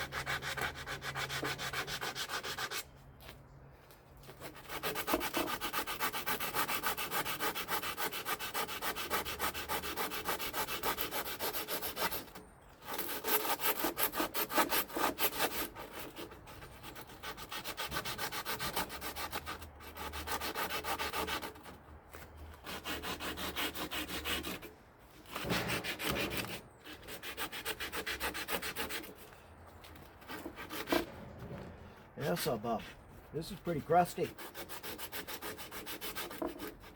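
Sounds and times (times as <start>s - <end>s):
abrasive scraping of rust on metal: 4.4s - 29.4s, 30.0s - 36.9s.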